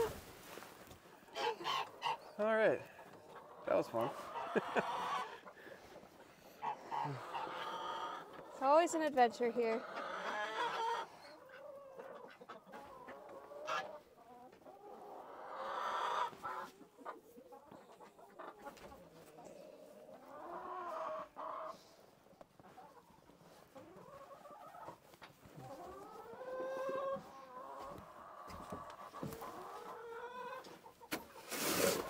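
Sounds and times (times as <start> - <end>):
chicken drawn-out calls: 0.0 - 8.8, 9.7 - 32.0
chickens clucking: 0.0 - 32.0.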